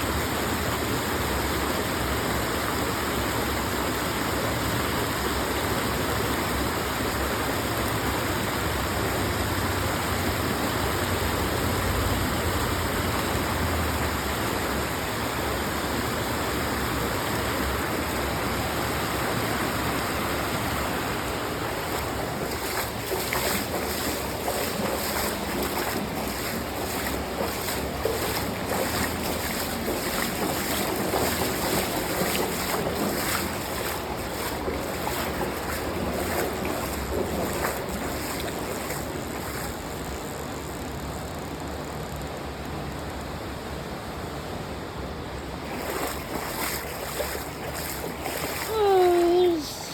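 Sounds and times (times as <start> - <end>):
creek water running: 0.0 - 42.0, 45.2 - 49.9.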